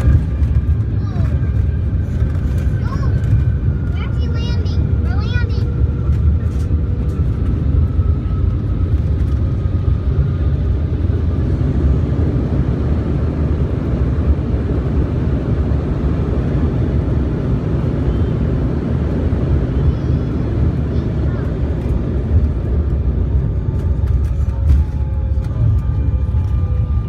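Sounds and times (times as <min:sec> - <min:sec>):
jet engines and airflow rumble: 0:00.0 - 0:27.0.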